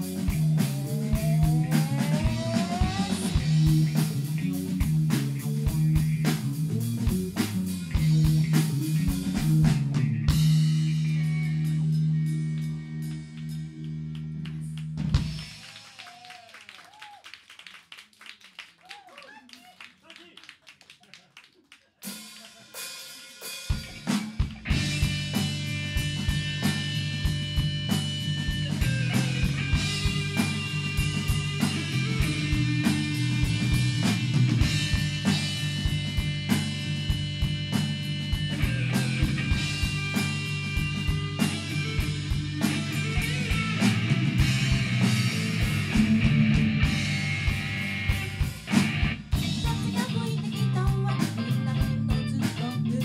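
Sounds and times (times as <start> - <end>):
electric guitar: 0.0 - 15.4, 23.5 - 53.0
electric bass: 0.0 - 15.5, 24.1 - 53.0
drum kit beat: 0.0 - 16.2, 22.0 - 53.0.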